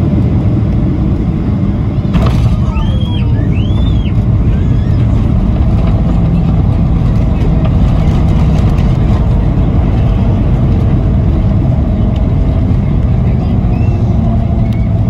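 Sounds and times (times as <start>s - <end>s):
airliner cabin engine roar: 0.0s - 15.0s.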